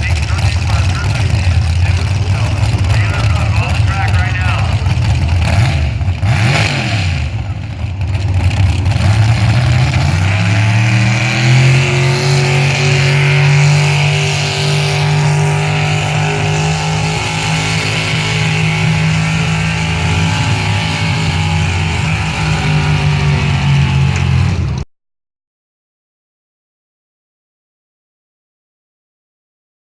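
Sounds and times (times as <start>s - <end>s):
truck engine at high revs: 0.0s - 24.8s.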